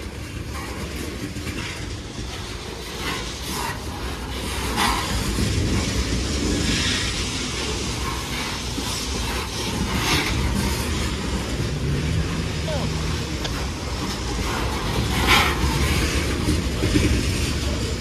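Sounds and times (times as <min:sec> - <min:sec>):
freight train wheels rumbling on rail: 0:00.0 - 0:18.0
wheels clicking and clacking: 0:00.0 - 0:18.0.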